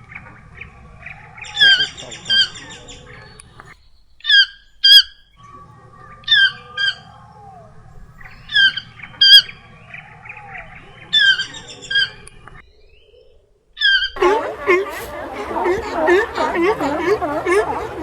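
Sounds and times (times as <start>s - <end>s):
bird giving harsh calls: 0.0s - 12.2s, 13.8s - 18.0s
faint bird chirps: 0.0s - 18.0s.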